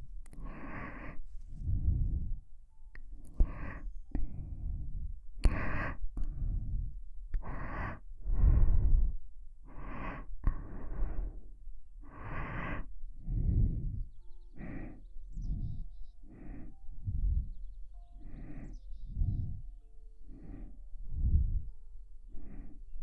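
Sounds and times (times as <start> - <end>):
person breathing close to microphone: 0.0 - 23.0.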